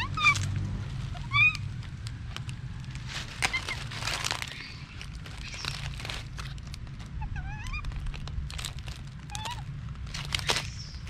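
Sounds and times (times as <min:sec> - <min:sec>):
dry leaves crackling and rustling: 0:00.0 - 0:11.0.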